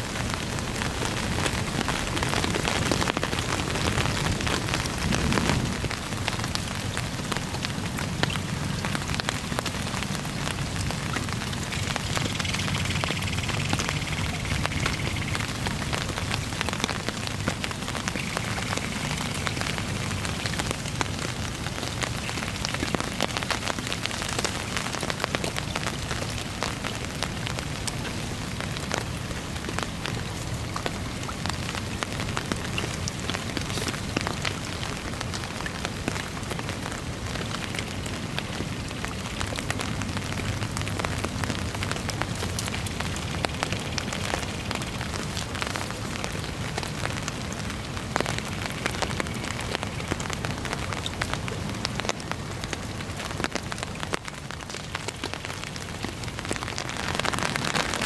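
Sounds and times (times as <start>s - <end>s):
heavy rain on river: 0.0s - 58.0s.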